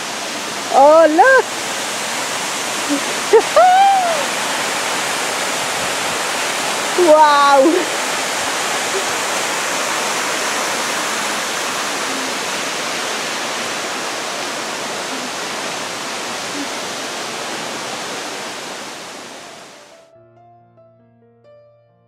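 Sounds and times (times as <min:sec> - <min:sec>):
waterfall rushing water: 0:00.0 - 0:19.9.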